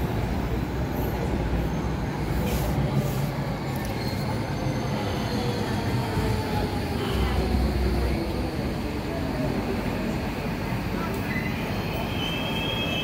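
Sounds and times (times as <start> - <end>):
train rumbling and slowing: 0.0 - 13.0.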